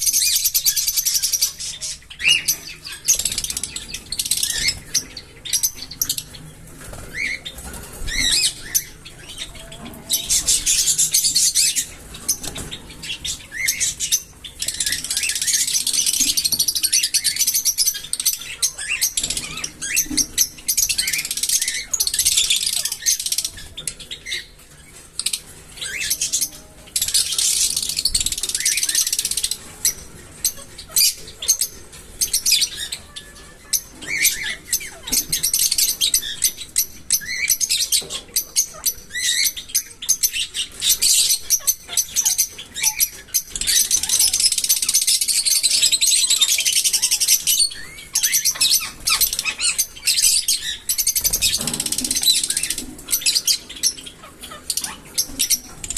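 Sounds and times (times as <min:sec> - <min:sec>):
small parrots chirping: 0:00.0 - 0:55.9.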